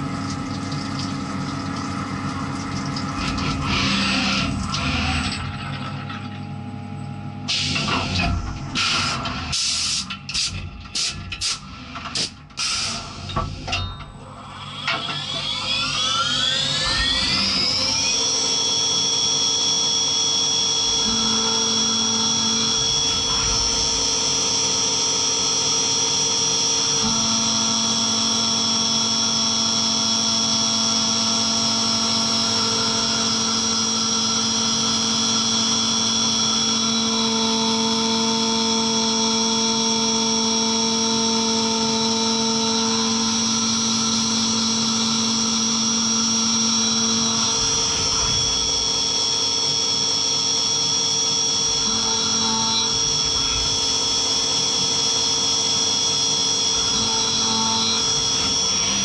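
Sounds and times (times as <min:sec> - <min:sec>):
milling machine cutting whine: 0:00.0 - 0:59.0.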